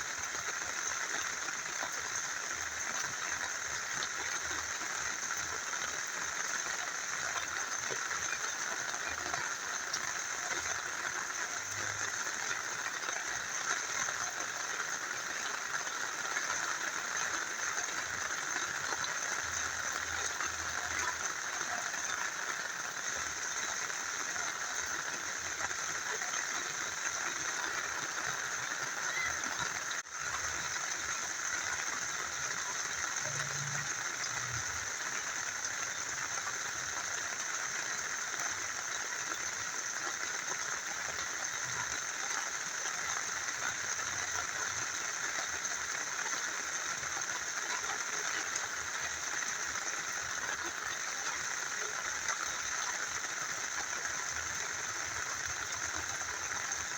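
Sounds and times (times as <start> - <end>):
rain falling: 0.0 - 56.9
small river flowing: 0.0 - 56.9.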